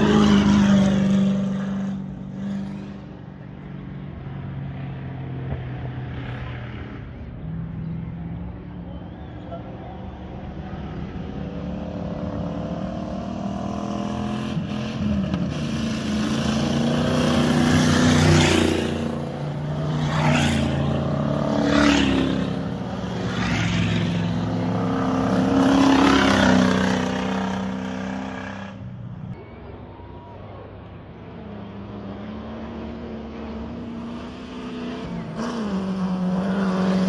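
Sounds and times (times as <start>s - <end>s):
race car engines passing: 0.0s - 37.0s.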